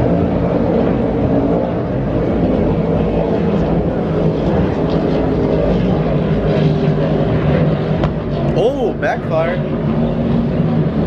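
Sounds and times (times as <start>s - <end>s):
powerboat engines droning: 0.0s - 11.0s.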